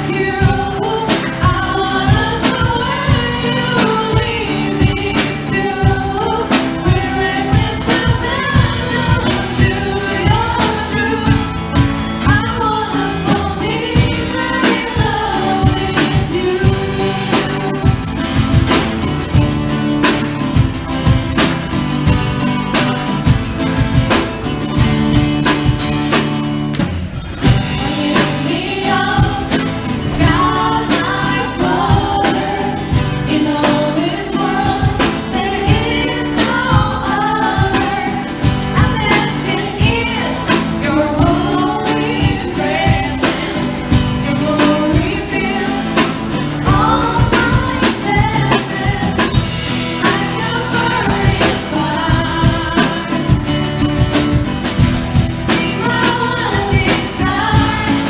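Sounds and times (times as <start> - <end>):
choir singing worship song: 0.0 - 21.4, 27.4 - 58.0
instrumental accompaniment: 0.0 - 58.0
steady drum beat: 0.0 - 58.0.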